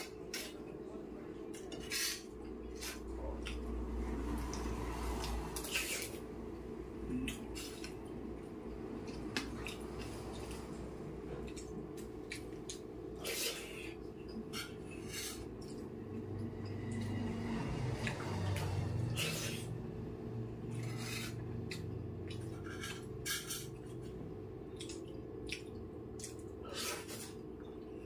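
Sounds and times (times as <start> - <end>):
man chewing: 1.5 - 6.3, 7.0 - 17.3, 17.9 - 19.8, 20.6 - 28.0.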